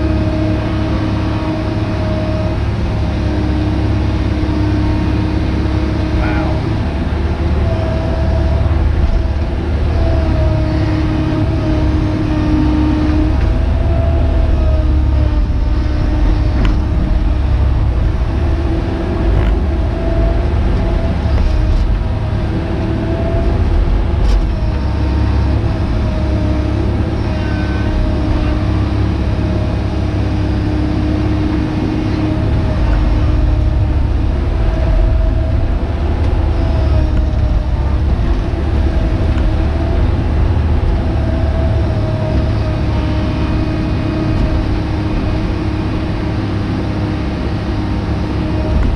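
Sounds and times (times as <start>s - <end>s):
diesel engine under load: 0.0s - 48.9s
hydraulic whine: 0.0s - 48.9s.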